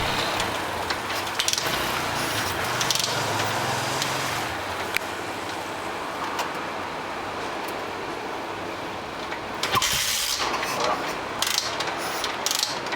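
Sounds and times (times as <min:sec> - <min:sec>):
outdoor background noise: 0:00.0 - 0:12.9.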